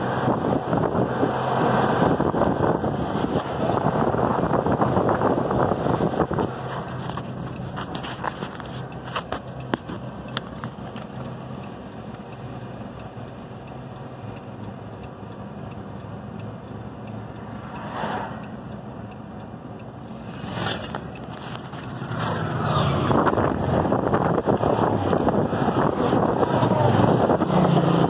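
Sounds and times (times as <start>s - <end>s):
car engine drone and road noise: 0.0s - 28.0s.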